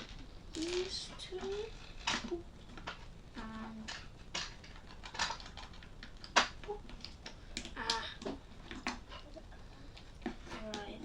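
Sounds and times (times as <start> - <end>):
plastic toy bricks clicking: 0.0 - 9.0.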